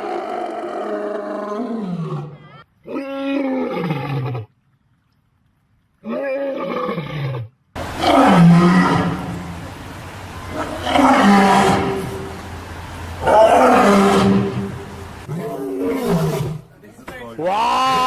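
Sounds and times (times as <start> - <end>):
animal roaring calls: 0.0 - 4.5, 6.1 - 16.7, 17.4 - 18.0.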